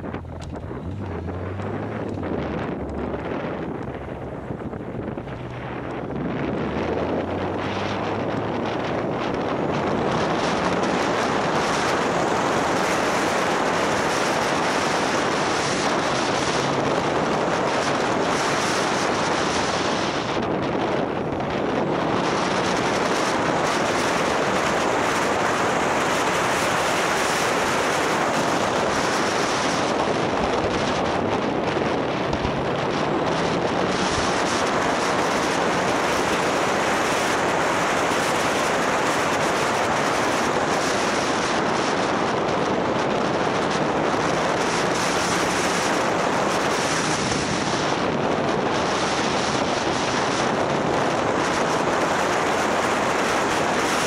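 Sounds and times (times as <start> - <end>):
motorbike engine humming: 0.0 - 54.0
wind buffeting microphone: 0.0 - 54.0.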